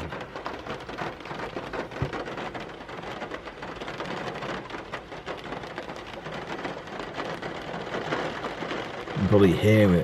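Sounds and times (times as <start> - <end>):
heavy rain on car window: 0.0 - 10.0.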